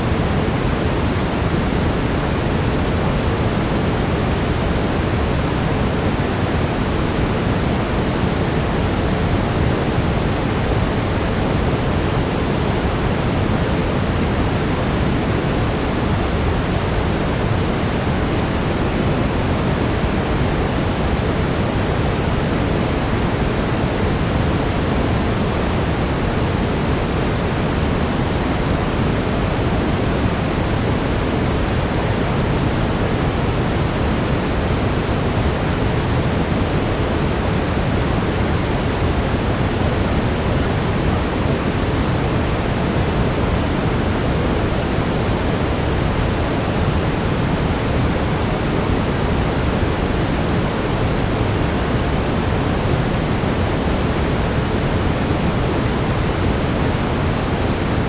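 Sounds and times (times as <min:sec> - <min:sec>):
deep steady brown noise: 0:00.0 - 0:58.0.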